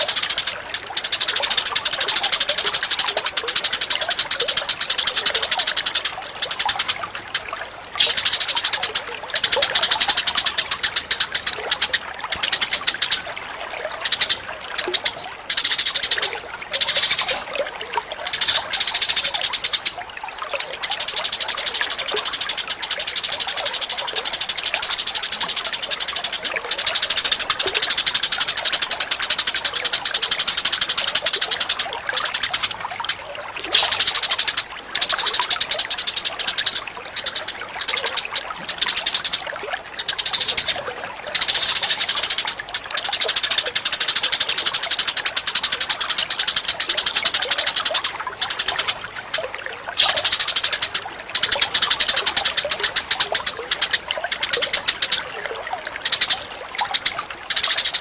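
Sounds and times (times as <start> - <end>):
high chattering bird trill: 0.0 - 13.3, 13.9 - 17.5, 18.2 - 58.0.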